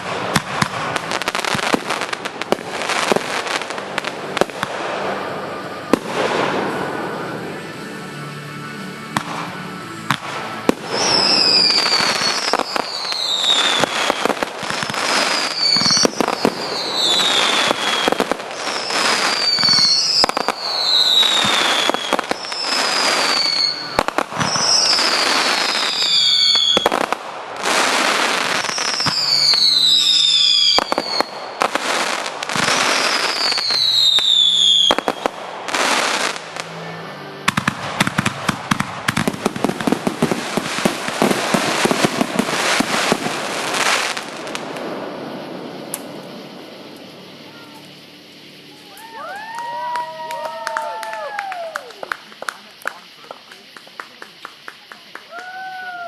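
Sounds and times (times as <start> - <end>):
fireworks cracking and popping: 0.0 - 7.4, 9.2 - 56.0
fireworks falling whistles: 0.0 - 56.0.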